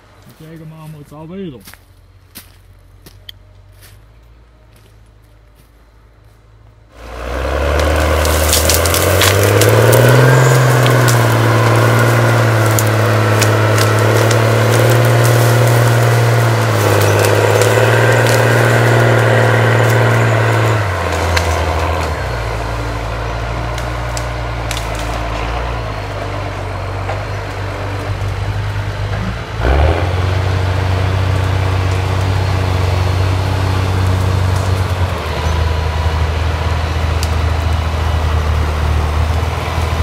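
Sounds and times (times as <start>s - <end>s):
tractor diesel engine: 0.0s - 40.0s
wood cracking: 7.0s - 40.0s.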